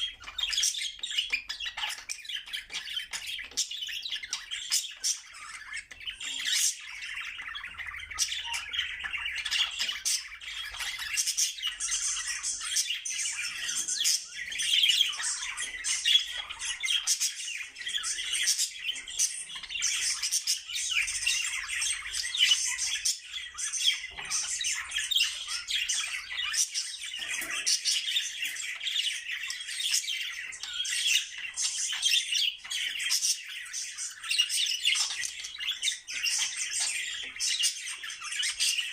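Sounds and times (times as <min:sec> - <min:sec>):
budgerigars warbling and chirping: 0:00.0 - 0:38.9.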